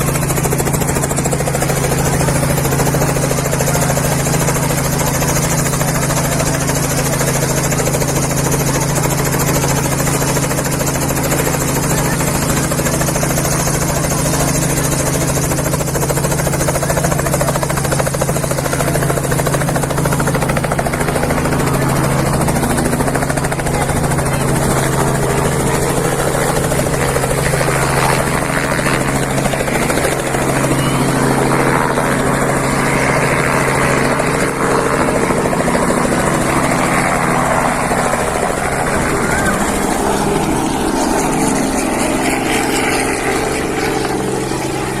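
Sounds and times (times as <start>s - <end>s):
helicopter rotor drone: 0.0s - 45.0s.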